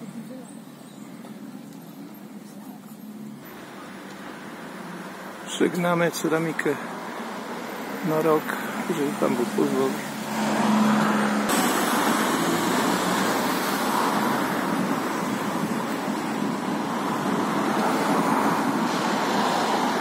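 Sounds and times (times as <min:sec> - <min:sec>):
road traffic rush: 0:00.0 - 0:20.0.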